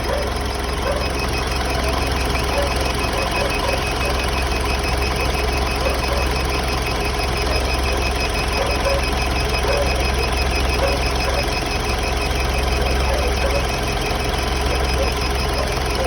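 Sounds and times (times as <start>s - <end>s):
car engine idling: 0.0s - 16.0s
engine ticking: 0.0s - 16.0s.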